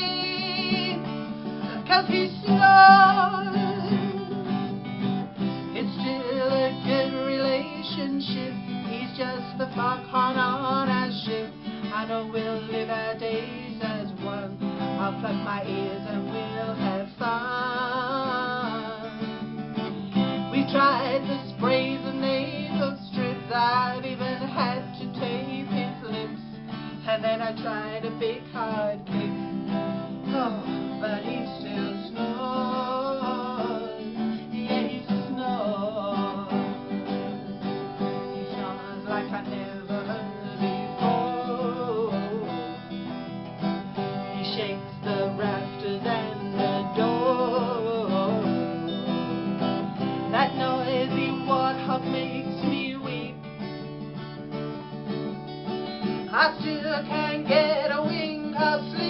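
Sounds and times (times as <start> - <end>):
strummed acoustic guitar chords: 0.0 - 59.0.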